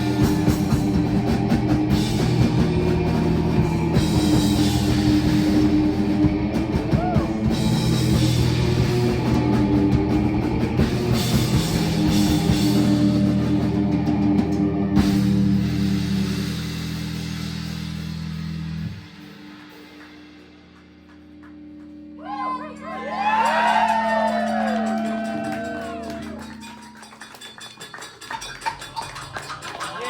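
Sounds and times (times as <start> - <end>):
live rock band playing: 0.0 - 21.0, 21.6 - 28.0.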